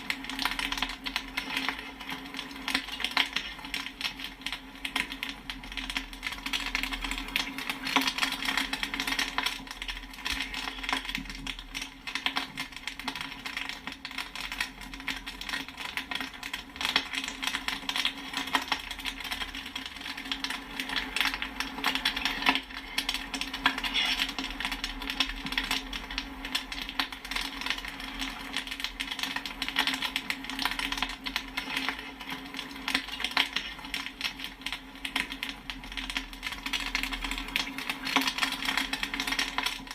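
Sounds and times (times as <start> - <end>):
popcorn popping: 0.0 - 39.9.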